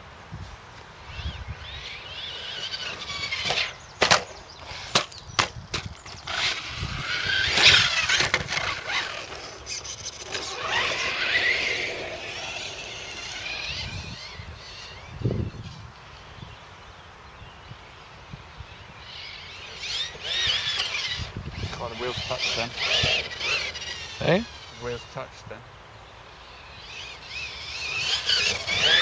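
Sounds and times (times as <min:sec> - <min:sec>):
rc car motor whining: 0:01.0 - 0:16.6, 0:18.7 - 0:25.5, 0:26.2 - 0:29.0.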